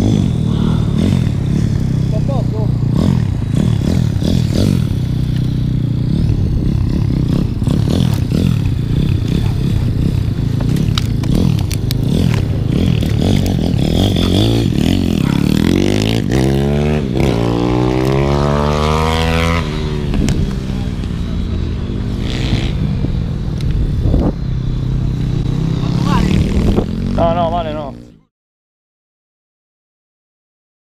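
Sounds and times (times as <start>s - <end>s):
pit bike engine accelerating: 0.0s - 28.3s.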